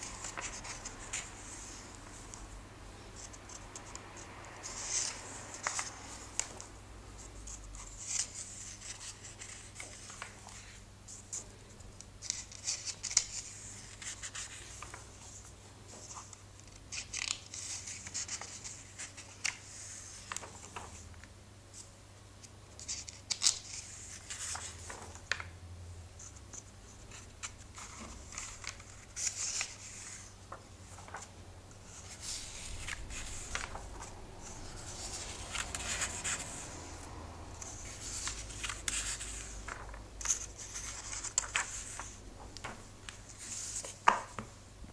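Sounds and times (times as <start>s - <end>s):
pages rustling and sliding: 0.0s - 2.5s, 3.2s - 11.6s, 12.2s - 21.9s, 22.8s - 25.6s, 26.2s - 44.5s.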